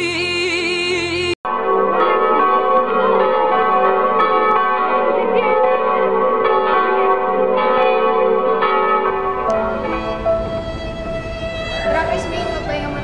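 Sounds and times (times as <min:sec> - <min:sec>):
church bells pealing: 0:01.5 - 0:13.0.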